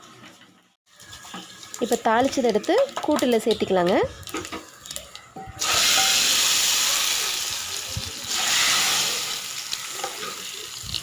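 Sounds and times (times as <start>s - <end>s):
hot oil sizzling: 0.9s - 11.0s.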